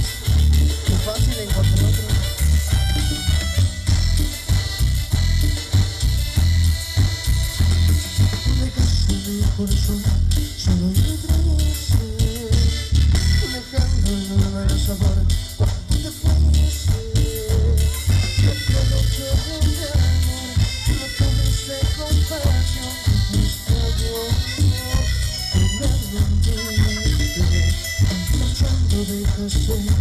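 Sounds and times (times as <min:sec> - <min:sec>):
live band playing dance music: 0:00.0 - 0:30.0.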